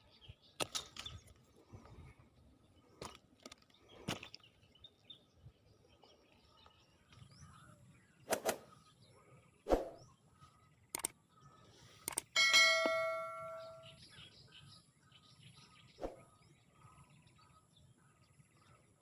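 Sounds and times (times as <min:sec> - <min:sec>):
faint bird chirps: 0:03.6 - 0:19.0.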